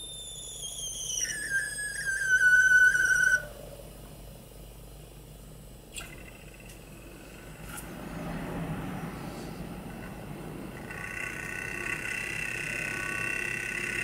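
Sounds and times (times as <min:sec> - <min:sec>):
high electronic whine: 0:00.0 - 0:03.8, 0:05.8 - 0:14.0
low hum of spinning rotor: 0:00.0 - 0:14.0.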